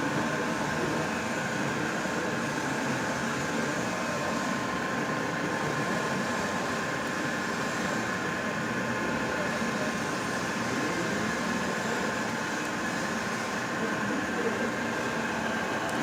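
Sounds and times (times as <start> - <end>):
high steady whining tones: 0.0 - 16.0
machine humming and hissing: 0.0 - 16.0.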